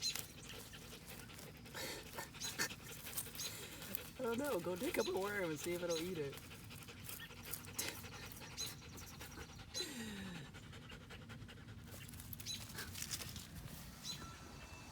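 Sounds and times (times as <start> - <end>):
dog panting: 0.0 - 14.2.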